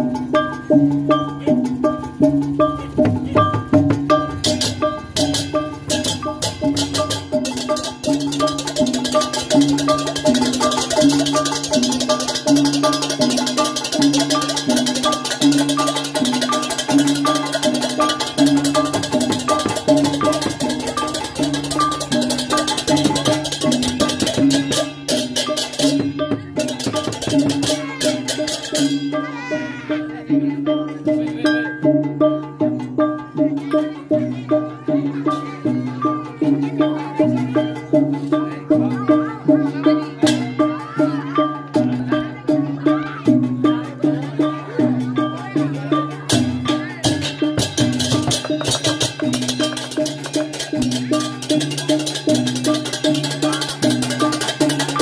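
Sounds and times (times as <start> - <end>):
clashing percussion: 0.0 - 55.0
drums: 0.0 - 55.0
gamelan music: 0.0 - 55.0.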